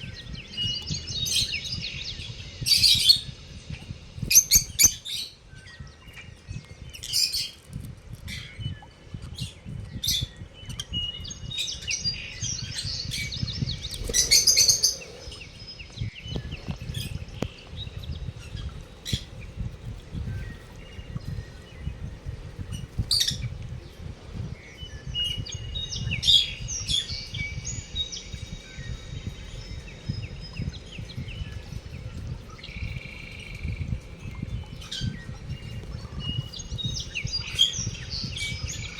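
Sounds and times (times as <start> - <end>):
rapid bird twittering: 0.0 - 7.7, 8.3 - 38.9
lovebirds chirping: 0.0 - 38.9.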